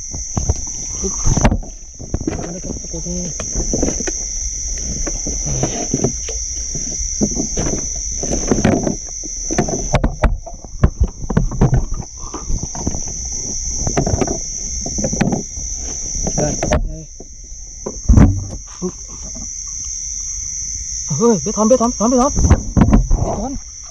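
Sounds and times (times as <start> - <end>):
water splashing and sloshing: 0.0 - 20.4
high-pitched insect drone: 0.0 - 23.9.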